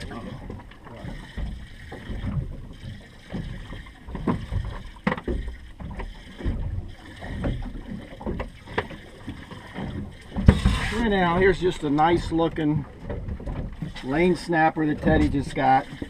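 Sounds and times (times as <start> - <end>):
knocks and clunks on deck: 0.0 - 16.0
water slapping against hull: 0.0 - 16.0.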